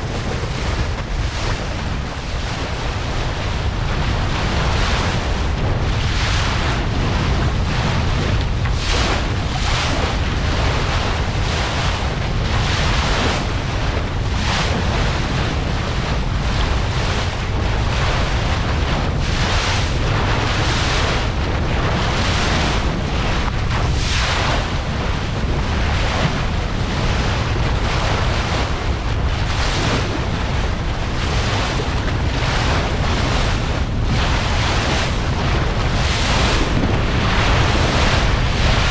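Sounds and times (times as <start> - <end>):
bow wave rushing and splashing: 0.0 - 38.9
wind buffeting microphone: 0.0 - 38.9.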